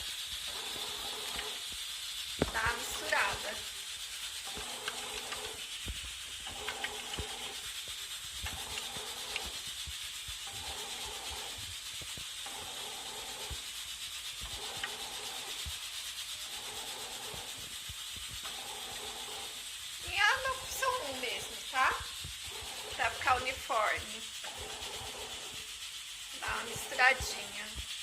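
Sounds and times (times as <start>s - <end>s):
bread machine motor humming: 0.0s - 28.0s
paddle scraping through dough: 2.4s - 3.7s, 4.3s - 5.8s, 6.4s - 27.9s.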